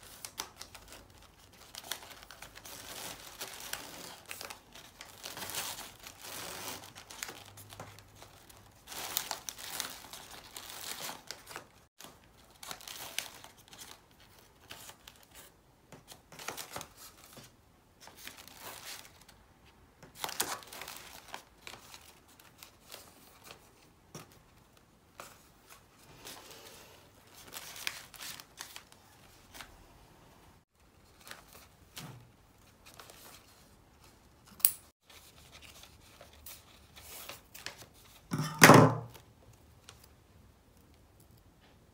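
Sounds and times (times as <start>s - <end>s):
wrapping paper and ribbon rustling: 0.0s - 19.4s, 20.1s - 29.8s, 30.7s - 38.3s.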